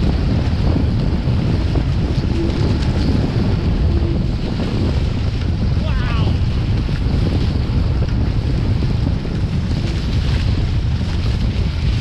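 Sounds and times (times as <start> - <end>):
water rushing past hulls: 0.0 - 12.0
wind buffeting microphone: 0.0 - 12.0.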